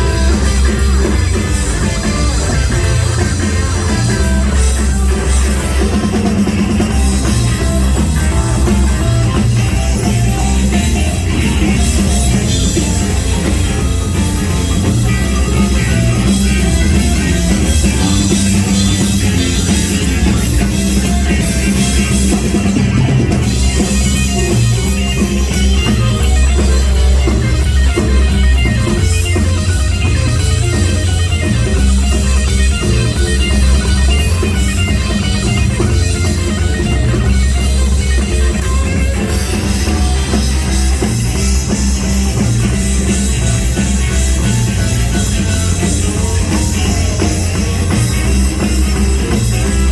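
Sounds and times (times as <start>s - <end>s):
bass: 0.0s - 49.9s
drum kit: 0.0s - 49.9s
guitar: 0.0s - 49.9s.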